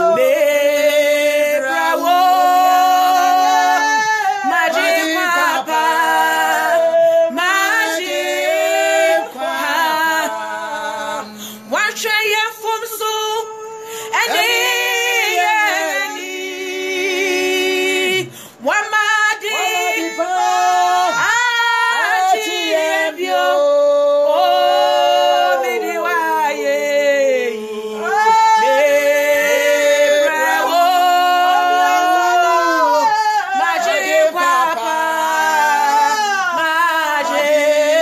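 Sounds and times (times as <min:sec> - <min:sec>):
women singing with vibrato: 0:00.0 - 0:38.0.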